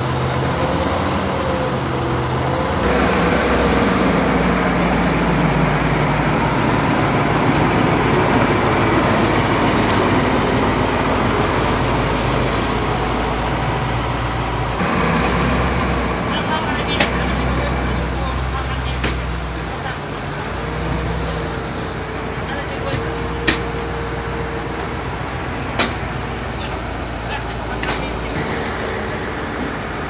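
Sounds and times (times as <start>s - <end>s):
motor engine running: 0.0s - 30.0s.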